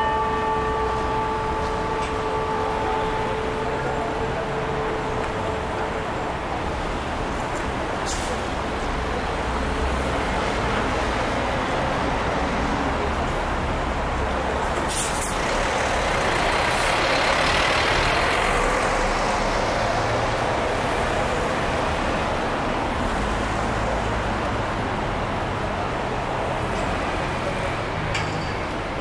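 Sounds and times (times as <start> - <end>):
bus passing: 0.0 - 29.0
city street traffic: 0.0 - 29.0.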